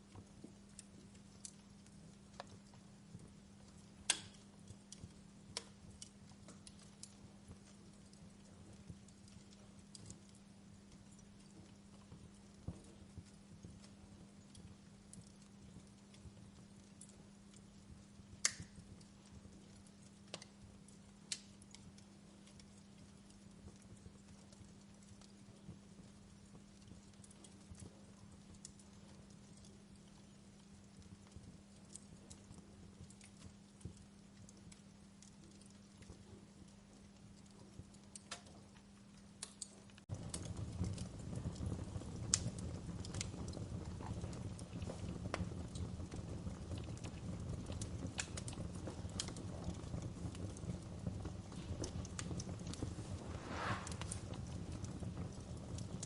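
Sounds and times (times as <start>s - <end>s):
low rumble of flames: 0.0s - 56.0s
wood fire crackling: 0.0s - 56.0s
fire popping: 0.1s - 56.0s.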